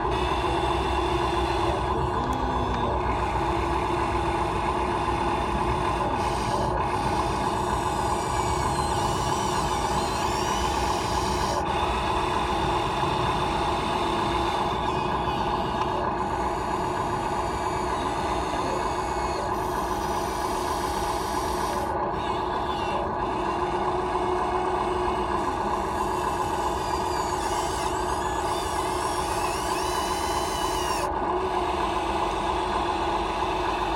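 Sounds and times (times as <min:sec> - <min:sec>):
toy excavator motors whirring: 0:00.0 - 0:33.9.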